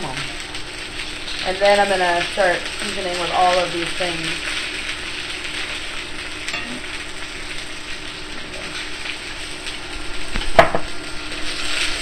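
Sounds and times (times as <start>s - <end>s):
peppers sizzling in a pan: 0.0s - 12.0s.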